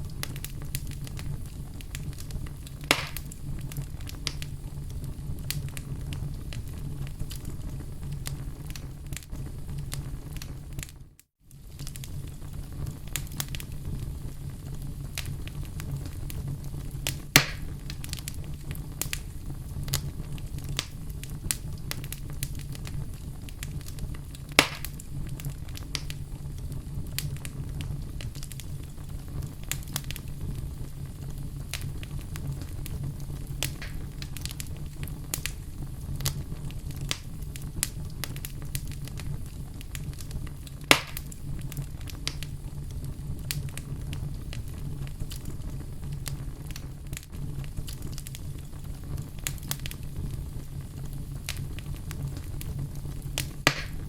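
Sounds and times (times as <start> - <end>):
fire crackling in fireplace: 0.0 - 54.0
sharp pops from fire: 0.0 - 54.0.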